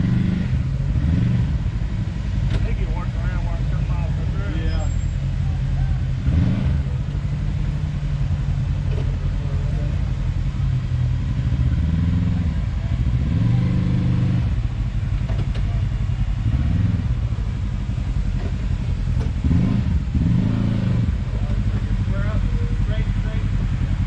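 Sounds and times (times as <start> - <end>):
utv engine revving: 0.0 - 24.0.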